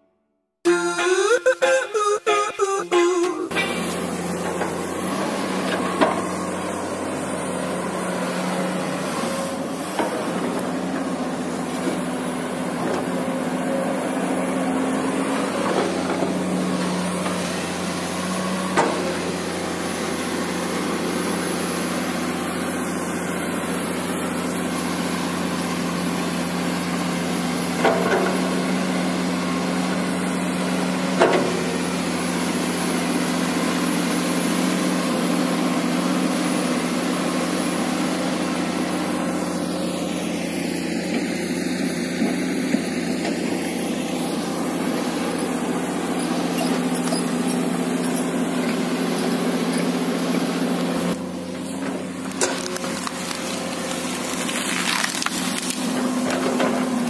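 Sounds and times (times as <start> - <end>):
excavator diesel engine running: 0.7 - 57.0.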